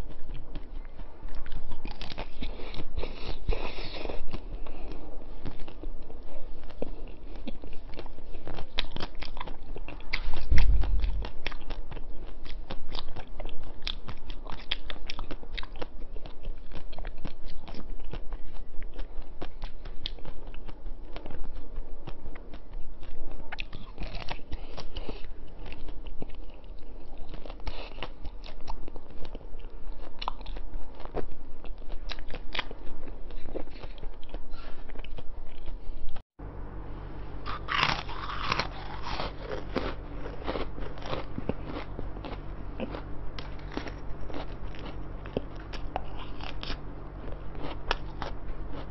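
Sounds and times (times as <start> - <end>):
crunchy chewing: 0.0 - 36.2, 37.3 - 48.9
low steady hum: 0.0 - 48.9.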